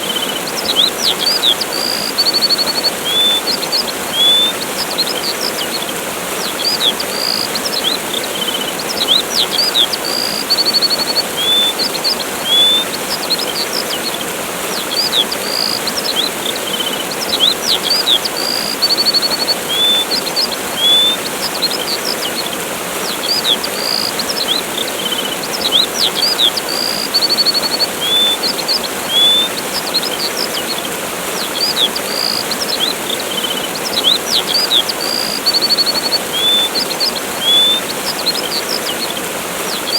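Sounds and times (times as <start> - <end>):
small birds chirping: 0.0 - 39.9
waterfall rushing: 0.0 - 39.9.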